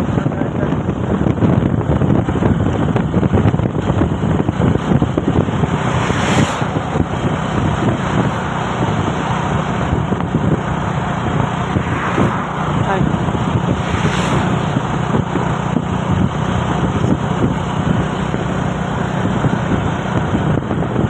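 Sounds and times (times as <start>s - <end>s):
truck engine and road noise: 0.0s - 21.0s
wind buffeting microphone: 0.0s - 21.0s.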